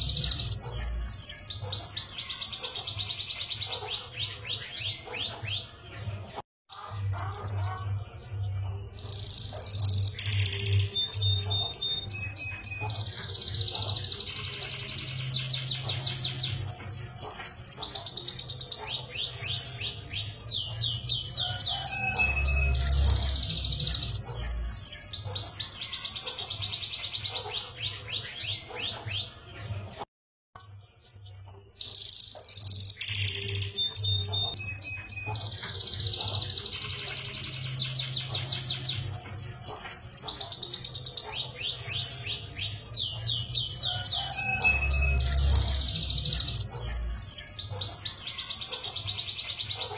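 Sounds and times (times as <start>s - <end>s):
canary singing trills: 0.0s - 30.0s, 30.6s - 49.9s.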